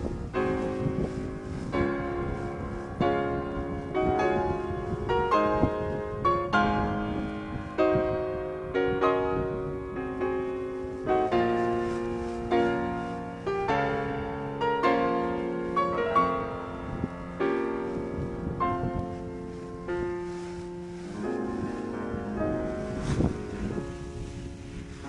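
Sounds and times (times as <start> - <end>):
slow piano music: 0.0 - 25.0.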